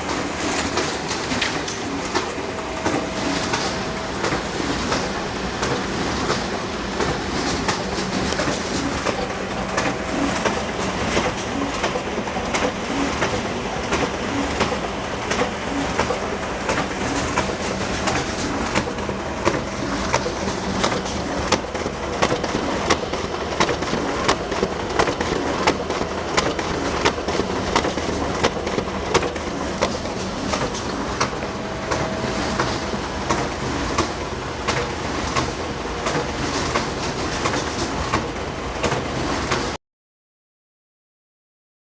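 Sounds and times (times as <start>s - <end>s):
paper feed clicking and clattering: 0.0s - 39.8s
photocopier whirring: 0.0s - 39.8s.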